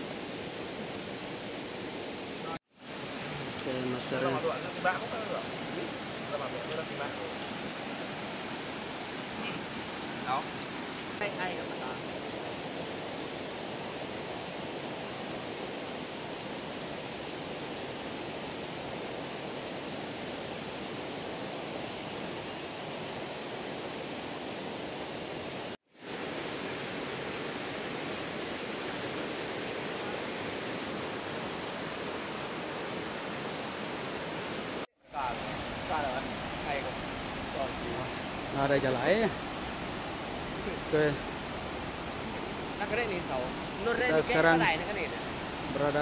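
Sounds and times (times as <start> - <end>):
river rushing over rocks: 0.0 - 46.0.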